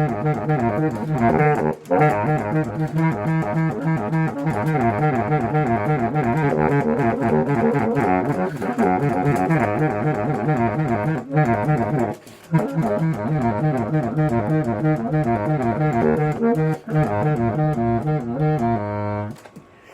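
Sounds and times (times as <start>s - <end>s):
saxophone riff: 0.0s - 19.6s.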